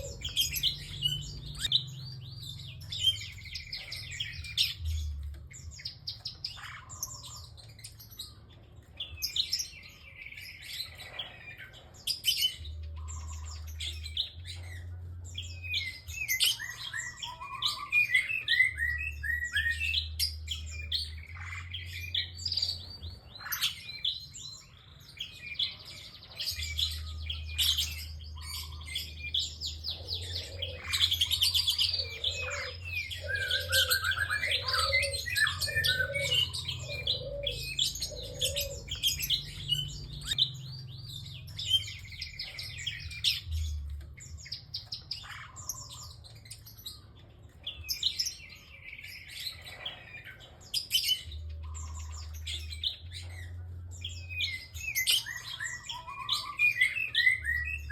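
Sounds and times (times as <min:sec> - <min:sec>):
bird singing high chirps: 0:00.0 - 0:57.9.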